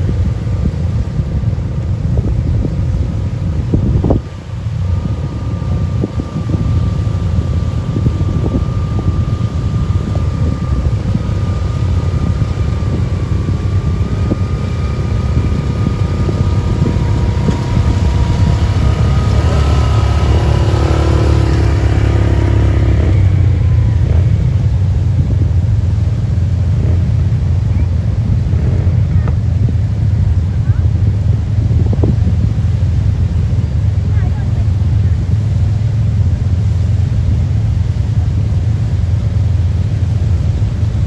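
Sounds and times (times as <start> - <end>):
thin whine: 0.0 - 41.0
vehicle engine running: 0.0 - 41.0
wind rumble on microphone: 0.0 - 41.0.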